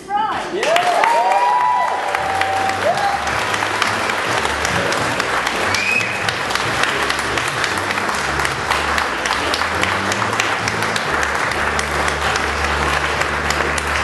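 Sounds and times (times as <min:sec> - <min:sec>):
crowd applauding: 0:00.4 - 0:14.0.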